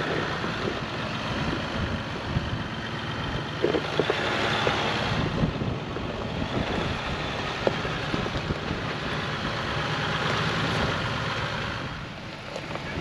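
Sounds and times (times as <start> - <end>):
tire noise on rocks: 0.0 - 13.0
vehicle engine running: 0.0 - 13.0.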